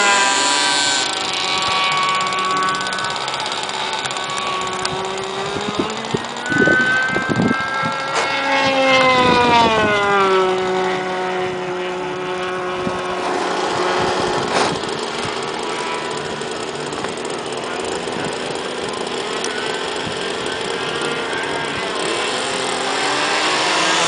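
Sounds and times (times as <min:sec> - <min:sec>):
model engine whining: 0:00.0 - 0:24.0.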